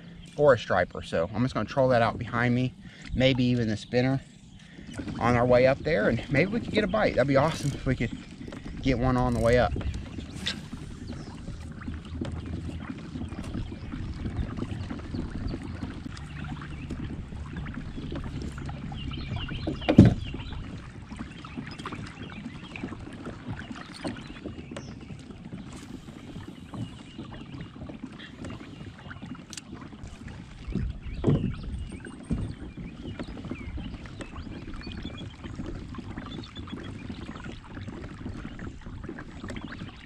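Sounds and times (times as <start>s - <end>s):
water washing along kayak hull: 0.0s - 40.0s.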